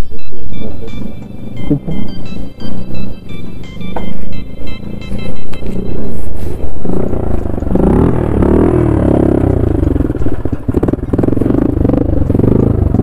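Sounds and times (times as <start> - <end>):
motorcycle engine revving: 0.5 - 13.0.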